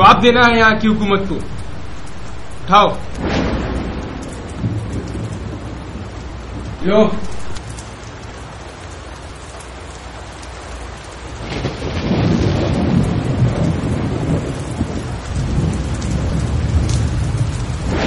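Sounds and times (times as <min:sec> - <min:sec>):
rain: 0:00.0 - 0:18.0
thunder rumbling: 0:00.0 - 0:18.0.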